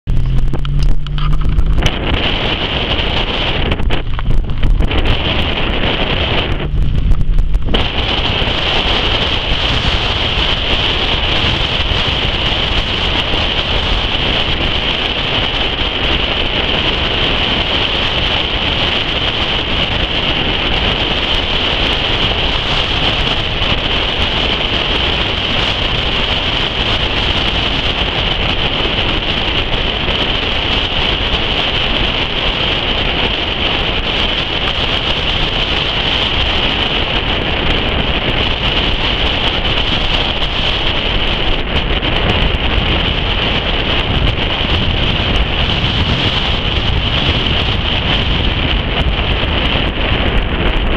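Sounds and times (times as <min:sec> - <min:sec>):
car road noise on dirt road: 0:00.0 - 0:50.9
wind blowing on microphone: 0:00.0 - 0:50.9.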